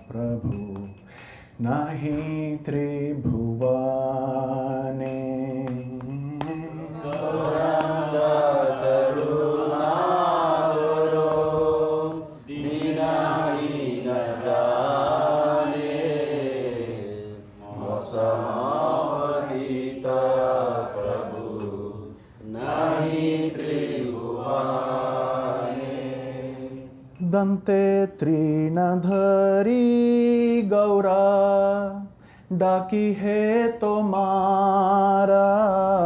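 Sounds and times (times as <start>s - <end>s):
voices singing devotional song: 1.6s - 36.0s.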